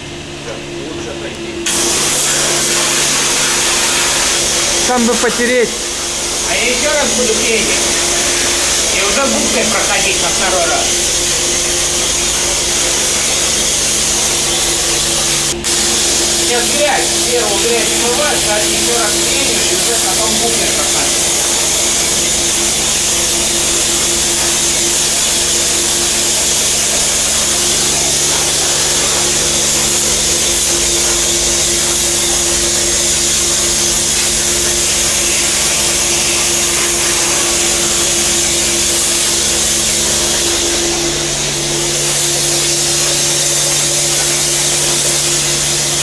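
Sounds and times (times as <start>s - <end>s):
pressure washer pump humming: 0.0s - 46.0s
water jet hissing: 1.6s - 46.0s.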